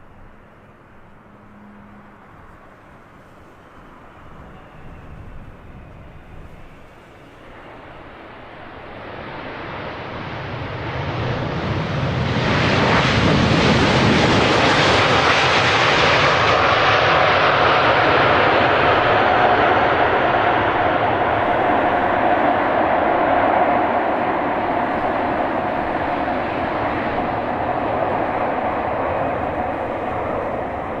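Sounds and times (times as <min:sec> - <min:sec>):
jet airliner landing: 0:00.0 - 0:31.0.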